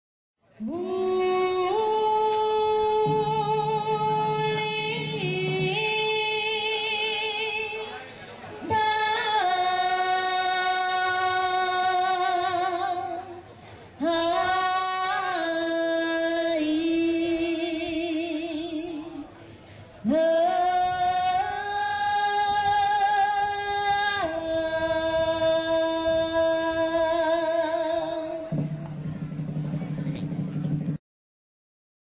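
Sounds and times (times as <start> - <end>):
woman singing with vibrato: 0.6 - 8.0, 8.6 - 19.3, 20.0 - 28.5.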